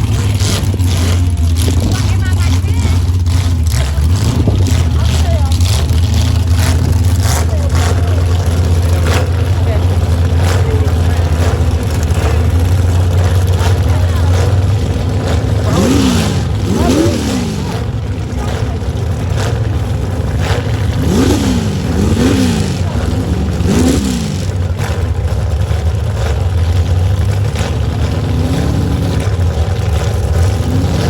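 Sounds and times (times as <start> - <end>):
low engine drone: 0.0 - 31.0
truck engine revving: 0.0 - 31.0.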